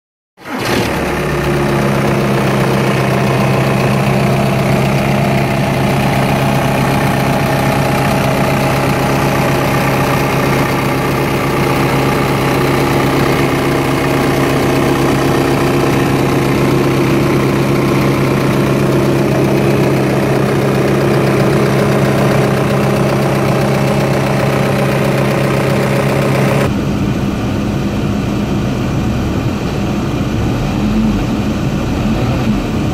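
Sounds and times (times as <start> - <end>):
diesel engine idling: 0.5 - 32.9.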